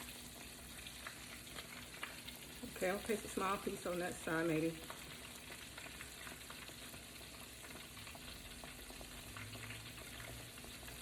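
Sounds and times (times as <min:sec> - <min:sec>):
chicken frying in grease: 0:00.0 - 0:11.0.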